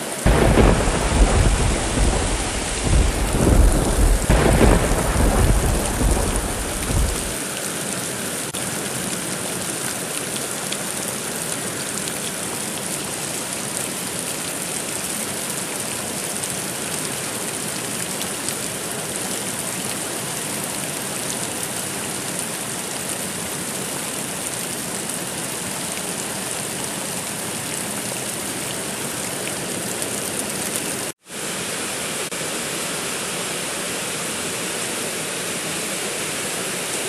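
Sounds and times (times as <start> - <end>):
dense rain hiss: 0.0 - 37.0.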